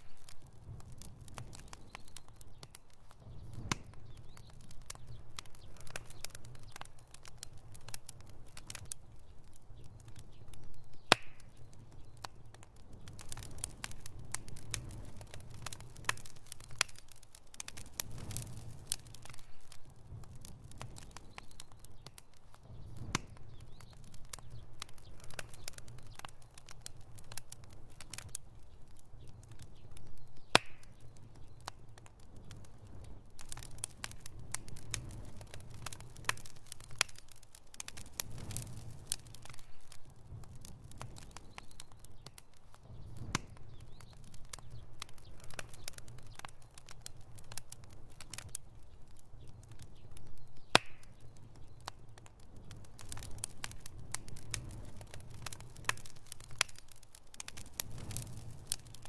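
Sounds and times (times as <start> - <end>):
campfire crackling and popping: 0.0 - 59.0
low fire rumble: 0.0 - 59.0.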